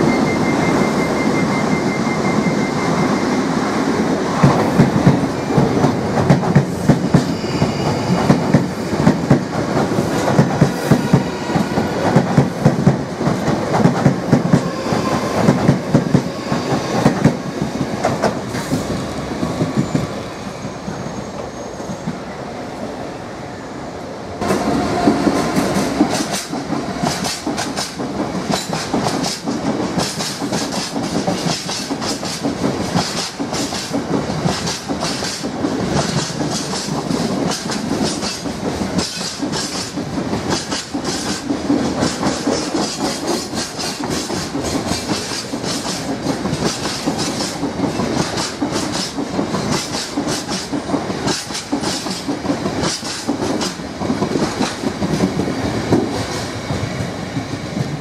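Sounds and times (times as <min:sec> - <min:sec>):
diesel locomotive passing: 0:00.0 - 0:58.0.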